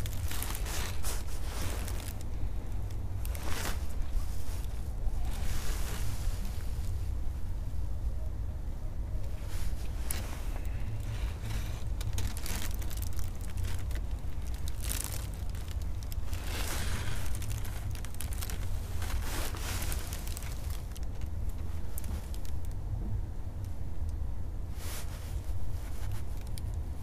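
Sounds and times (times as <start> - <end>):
rustling and clicks: 0.0 - 7.0, 9.2 - 22.8, 24.9 - 27.0.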